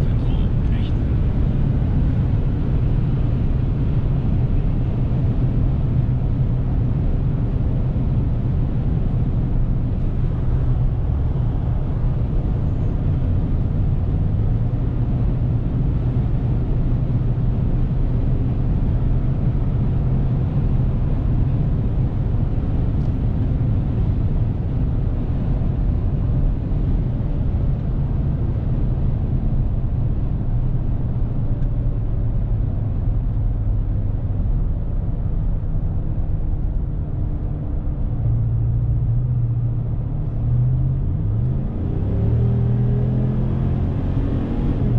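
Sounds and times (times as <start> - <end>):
low engine drone: 0.0 - 44.9.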